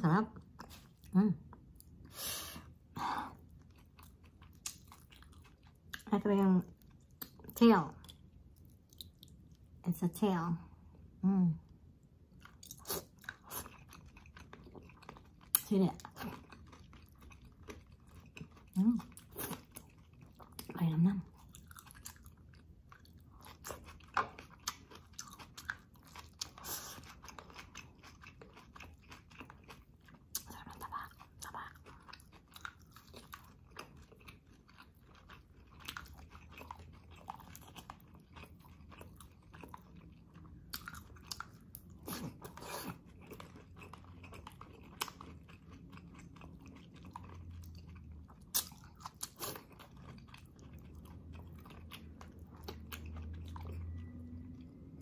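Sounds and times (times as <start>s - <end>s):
person chewing and smacking food: 3.4s - 6.1s, 6.7s - 9.8s, 12.3s - 20.7s, 21.3s - 54.8s.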